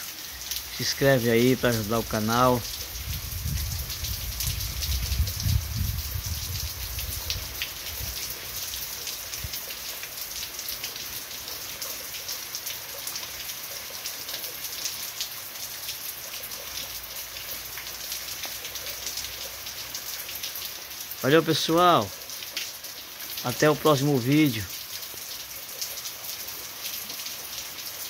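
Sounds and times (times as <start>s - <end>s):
heavy rain on pavement: 0.0s - 28.0s
water pouring off roof edge: 0.0s - 28.0s.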